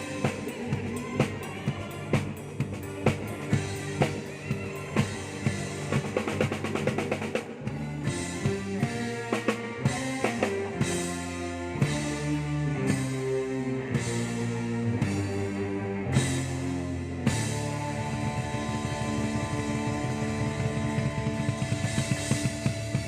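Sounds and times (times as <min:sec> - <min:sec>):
bass notes: 0:00.0 - 0:23.0
drum kit playing: 0:00.0 - 0:23.0
drum roll: 0:00.0 - 0:23.0.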